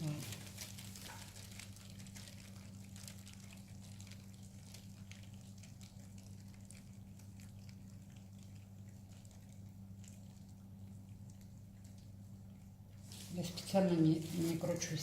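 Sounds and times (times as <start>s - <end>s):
small clicks and wet ticks: 0.0s - 15.0s.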